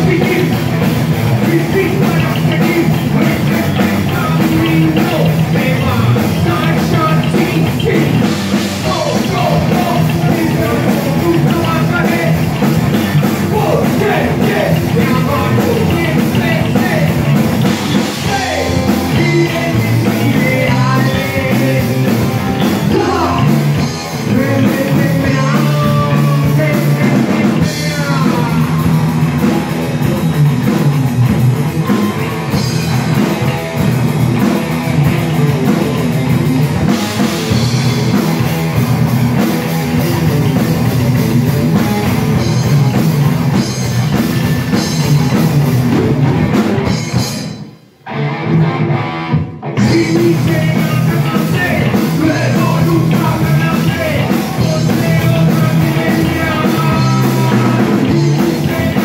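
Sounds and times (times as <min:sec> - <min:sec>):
loud rock band playing: 0:00.0 - 0:59.0.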